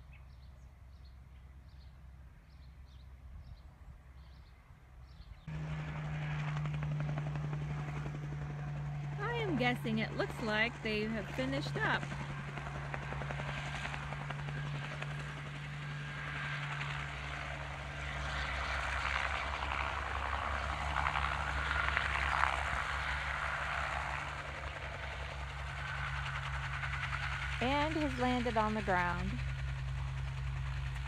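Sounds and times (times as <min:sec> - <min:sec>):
helicopter rotor and engine drone: 0:00.0 - 0:31.0.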